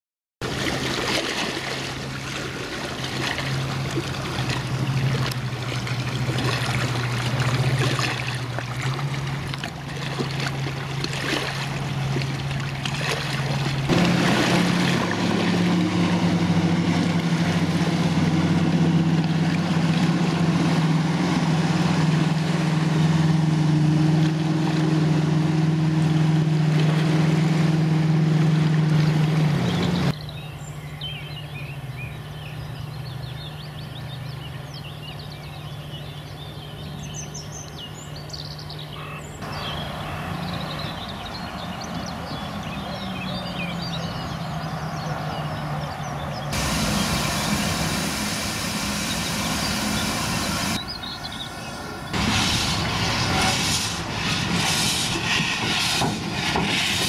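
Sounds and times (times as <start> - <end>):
motorboat engine drone: 0.4 - 57.0.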